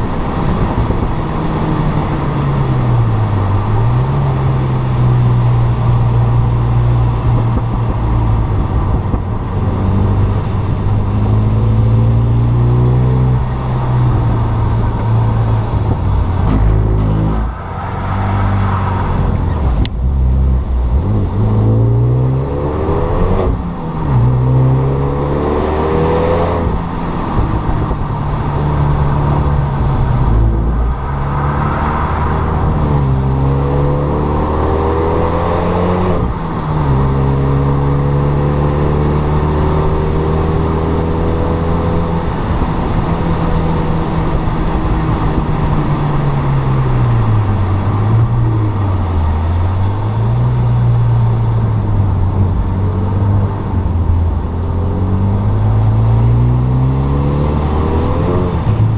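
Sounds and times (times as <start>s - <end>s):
turbocharged car engine revving: 0.0s - 58.9s.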